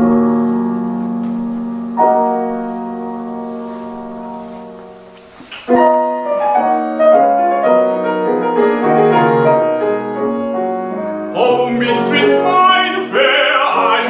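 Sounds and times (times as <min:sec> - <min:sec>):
solo piano: 0:00.0 - 0:14.0.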